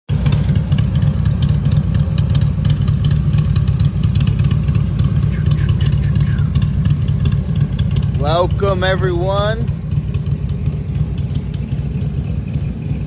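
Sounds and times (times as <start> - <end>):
vehicle engine running: 0.1 - 13.0.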